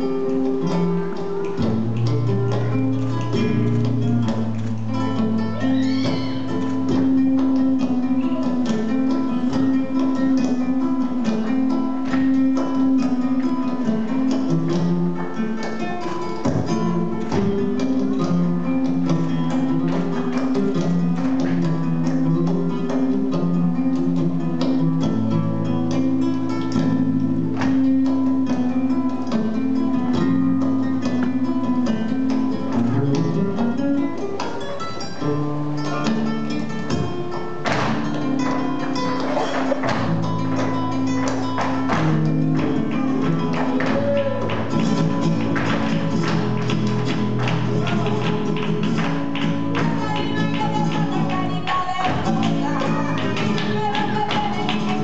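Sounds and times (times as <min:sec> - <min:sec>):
flamenco acoustic guitar: 0:00.0 - 0:55.0
dance shoes striking floor: 0:00.3 - 0:25.2, 0:35.8 - 0:55.0.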